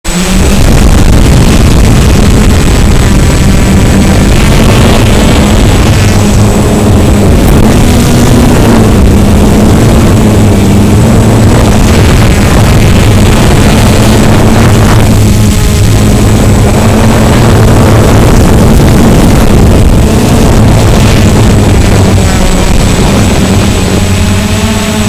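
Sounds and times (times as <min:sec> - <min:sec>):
drone motors buzzing: 0:00.1 - 0:25.0.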